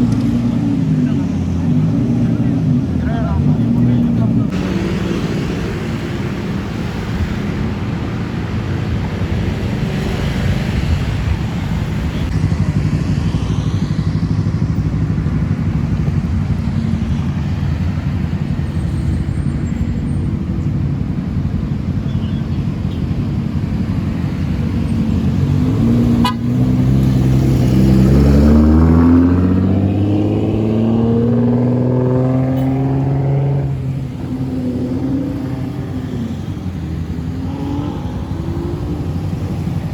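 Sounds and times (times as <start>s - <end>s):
car accelerating: 0.0s - 39.9s
street traffic engines: 0.0s - 39.9s.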